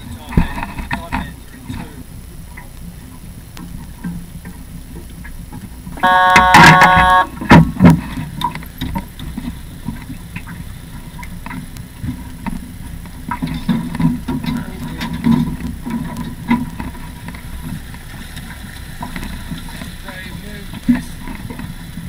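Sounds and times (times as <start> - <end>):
low uneven rumble: 0.0 - 22.0
water slapping against boat hull: 0.0 - 22.0.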